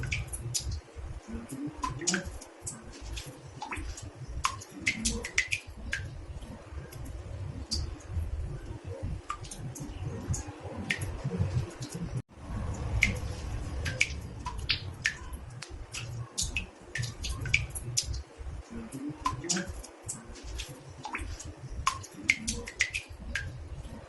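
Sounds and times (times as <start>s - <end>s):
steady low rumble: 0.0s - 24.0s
water drops plinking in bathtub: 0.0s - 24.0s.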